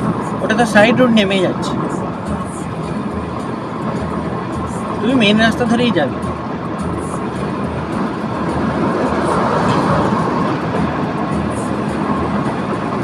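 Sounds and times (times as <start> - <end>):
car engine running: 0.0 - 13.0
car road and tyre noise: 0.0 - 13.0.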